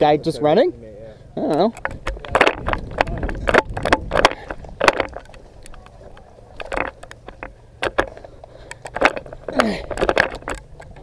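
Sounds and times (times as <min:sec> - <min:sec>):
low wind rumble on microphone: 0:01.7 - 0:11.0.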